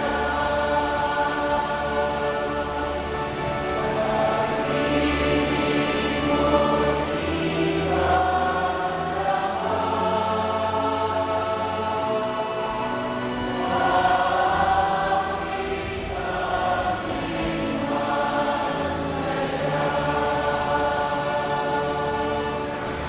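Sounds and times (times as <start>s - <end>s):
choir singing held chords: 0.0s - 23.0s.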